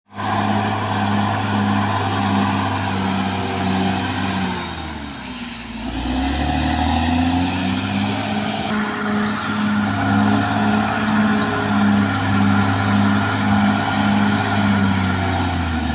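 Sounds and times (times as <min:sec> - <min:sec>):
bulldozer diesel engine running: 0:00.1 - 0:15.9.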